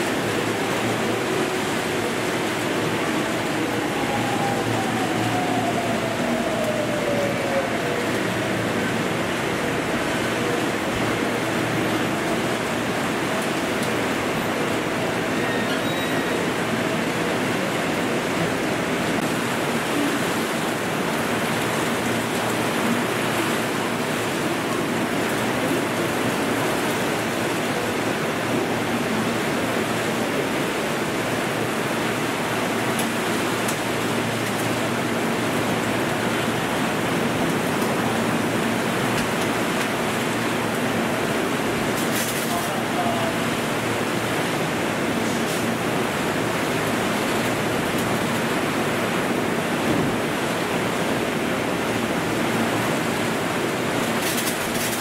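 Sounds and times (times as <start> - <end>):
heavy rain pouring on roof: 0.0 - 55.0.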